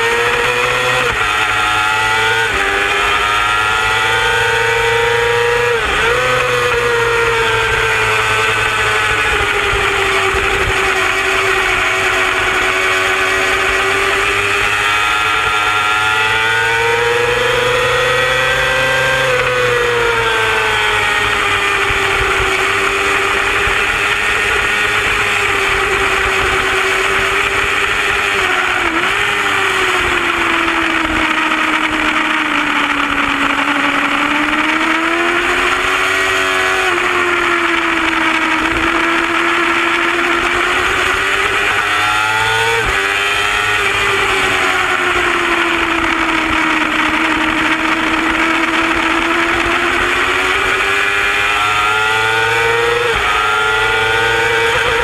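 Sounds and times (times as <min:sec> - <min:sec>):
motorcycle engine revving hard: 0:00.0 - 0:55.0
wind noise: 0:00.0 - 0:55.0.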